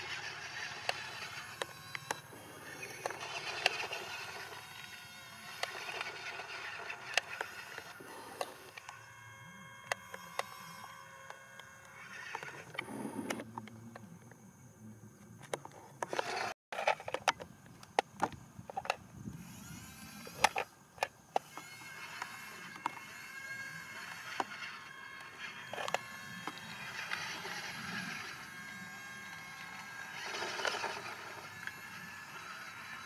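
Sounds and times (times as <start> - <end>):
toy truck motor whining: 0.0 - 13.5, 16.0 - 17.4, 18.8 - 33.0.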